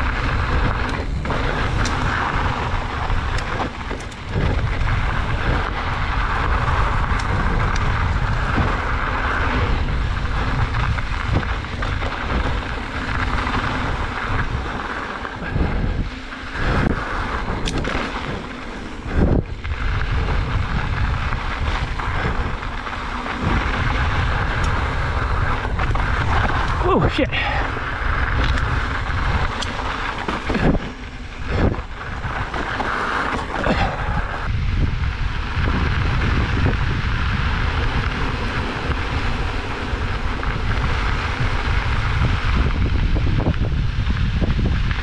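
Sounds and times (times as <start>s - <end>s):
bike knocks and rattles: 0.0s - 26.9s, 27.9s - 45.0s
bike tyres on dirt trail: 0.0s - 45.0s
wind on microphone: 0.0s - 45.0s.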